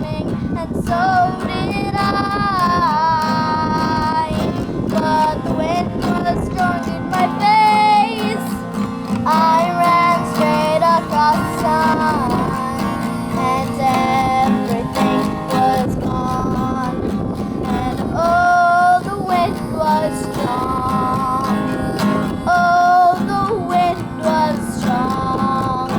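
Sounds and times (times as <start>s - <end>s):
girl singing: 0.0s - 25.9s
guitar accompaniment: 0.0s - 25.9s.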